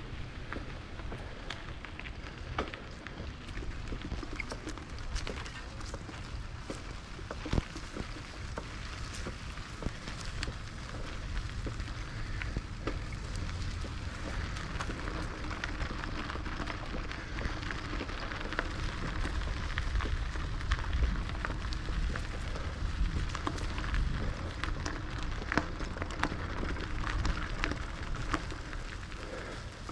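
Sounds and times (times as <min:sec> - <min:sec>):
bicycle tyres crunching on gravel: 0:00.0 - 0:29.9
wind rumble on microphone: 0:00.0 - 0:29.9.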